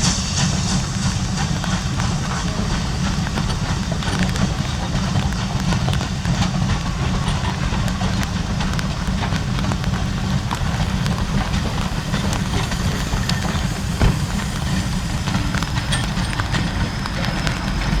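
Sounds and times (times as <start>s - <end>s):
train rumbling on track: 0.0s - 18.0s
wheels clicking and knocking: 0.0s - 18.0s.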